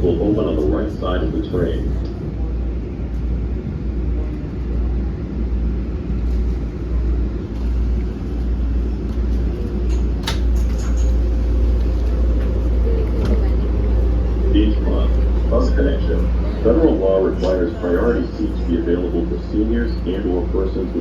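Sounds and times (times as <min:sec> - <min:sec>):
subway car rumbling: 0:00.0 - 0:21.0.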